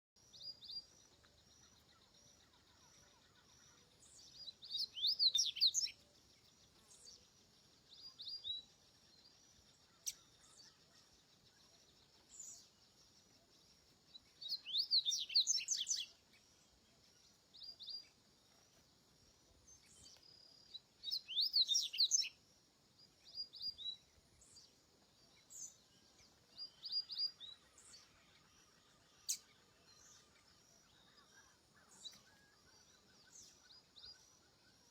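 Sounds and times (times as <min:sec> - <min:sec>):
bird singing twittering phrases: 0:00.2 - 0:34.9
faint high-pitched background: 0:00.2 - 0:34.9.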